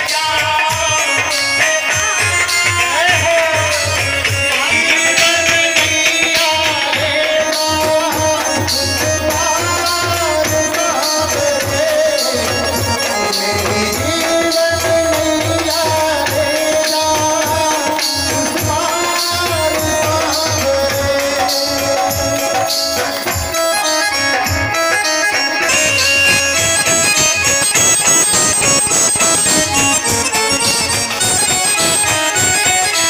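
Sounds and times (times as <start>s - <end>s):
man singing into a microphone: 0.0s - 33.0s
tabla beat: 0.0s - 33.0s.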